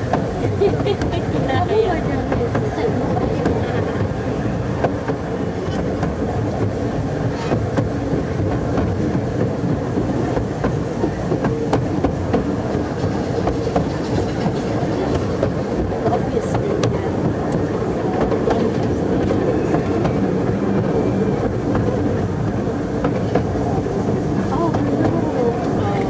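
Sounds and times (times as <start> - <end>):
train wheels rumbling: 0.0 - 26.0
wheels clicking over rail joints: 0.0 - 26.0.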